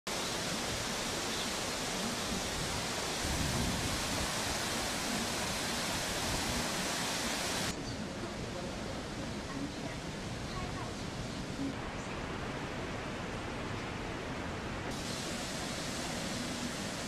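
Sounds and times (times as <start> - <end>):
waterfall rushing: 0.1 - 7.8, 8.6 - 17.0.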